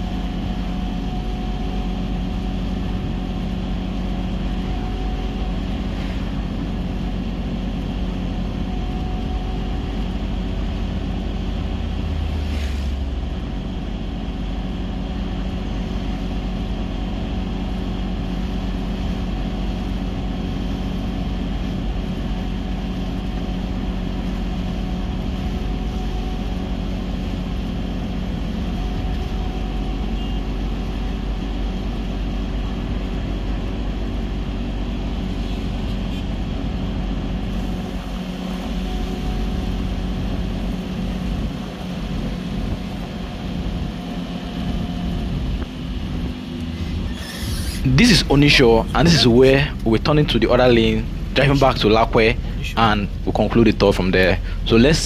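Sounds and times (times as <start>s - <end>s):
car engine hum: 0.0s - 55.0s
tyre and road rumble: 0.0s - 55.0s.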